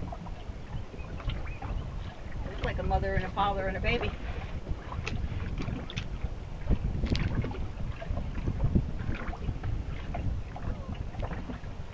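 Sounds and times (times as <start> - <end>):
water lapping and splashing: 0.0 - 11.9
wind rumbling on microphone: 0.0 - 11.9.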